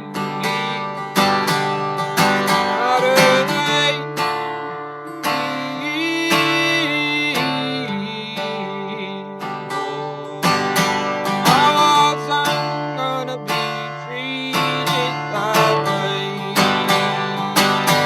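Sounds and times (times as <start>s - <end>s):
acoustic guitar strumming: 0.0s - 18.0s
person singing: 0.0s - 18.0s.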